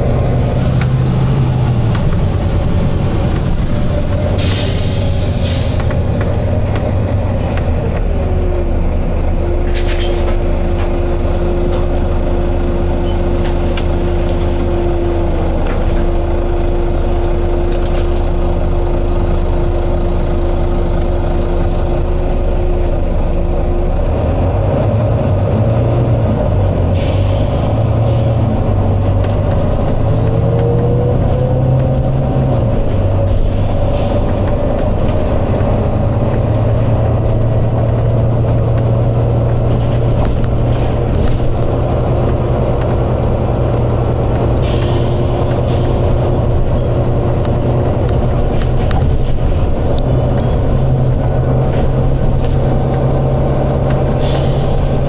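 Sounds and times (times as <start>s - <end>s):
diesel bus engine running: 0.0s - 55.0s
engine whine: 0.0s - 55.0s.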